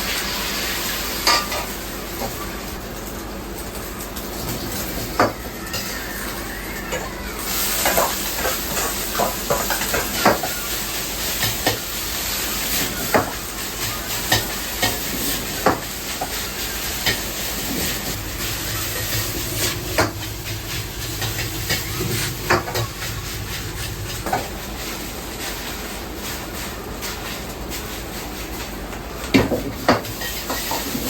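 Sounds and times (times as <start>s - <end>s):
food sizzling in a hot pan: 0.0s - 31.0s.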